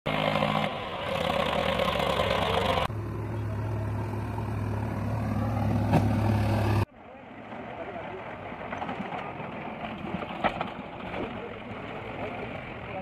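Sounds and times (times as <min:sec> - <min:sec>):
diesel engines running: 0:00.1 - 0:13.0.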